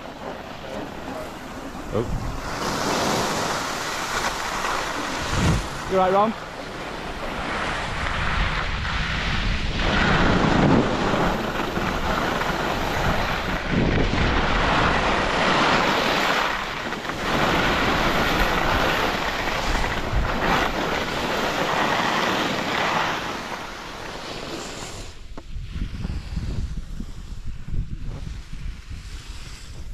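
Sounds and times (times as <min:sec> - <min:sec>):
skis hissing on packed snow: 0:00.0 - 0:29.9
wind on camera microphone: 0:00.0 - 0:29.9.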